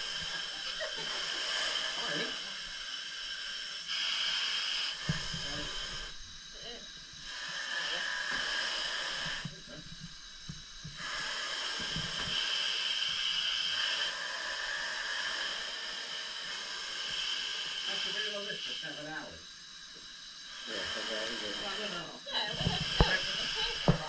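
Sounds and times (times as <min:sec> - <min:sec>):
breathing gas hissing: 0:00.0 - 0:24.0.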